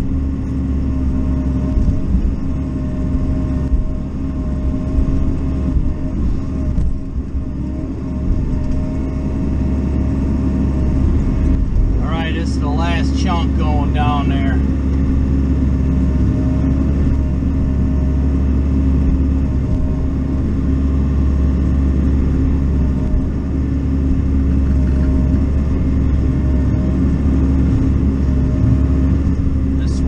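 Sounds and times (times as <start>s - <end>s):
excavator diesel engine running: 0.0s - 30.0s
hydraulic whine: 0.0s - 30.0s.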